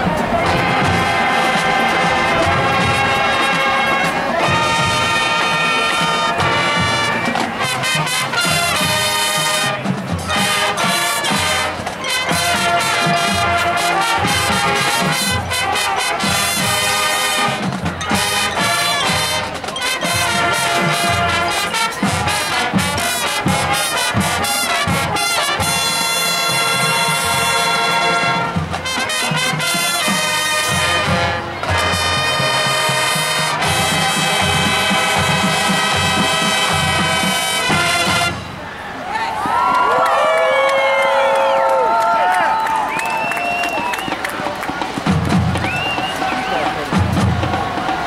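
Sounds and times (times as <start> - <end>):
held brass chords: 0.0 - 38.7
marching band playing: 0.0 - 48.0.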